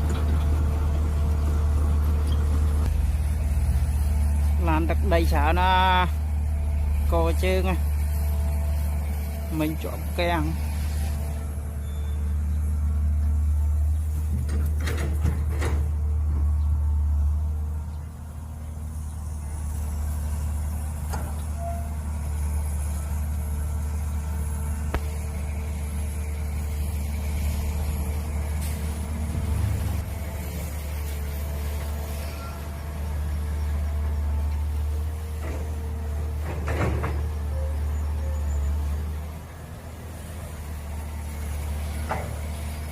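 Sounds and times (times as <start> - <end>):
mini excavator engine humming: 0.0 - 42.9.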